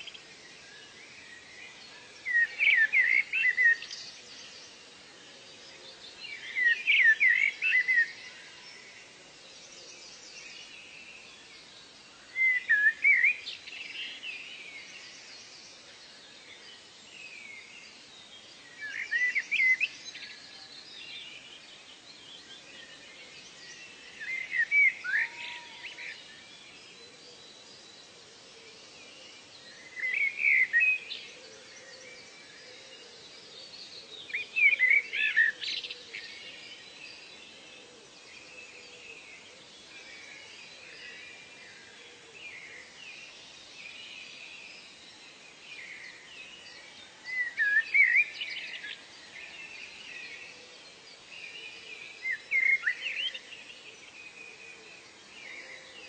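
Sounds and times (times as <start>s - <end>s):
bird chirping song: 0.0s - 56.0s
faint background hiss: 0.0s - 56.0s.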